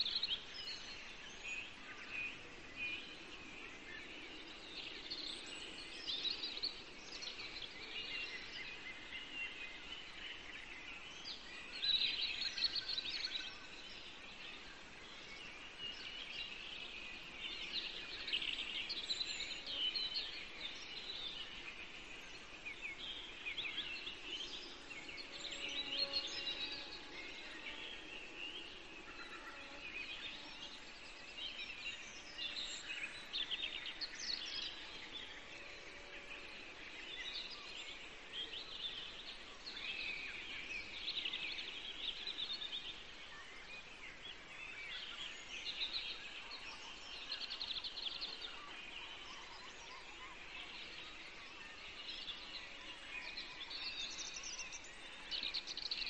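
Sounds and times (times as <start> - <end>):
small birds chirping: 0.0 - 56.0
steady background hiss: 0.0 - 56.0.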